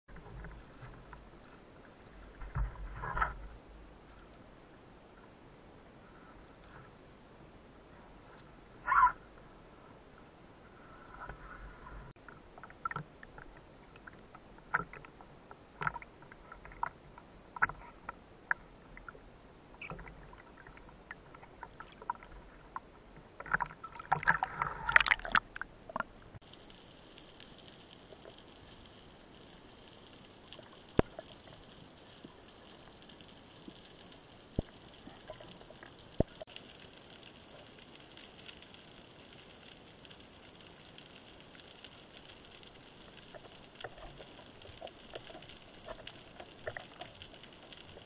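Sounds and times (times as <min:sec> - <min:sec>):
water splashing and sloshing: 0:00.1 - 0:48.0.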